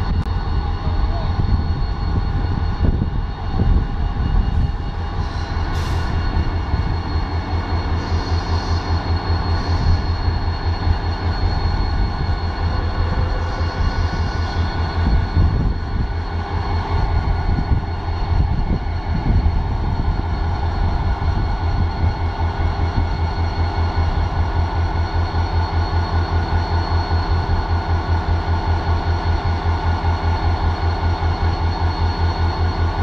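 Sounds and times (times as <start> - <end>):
diesel locomotive engine rumbling: 0.0 - 33.0
steady high whine: 0.0 - 33.0.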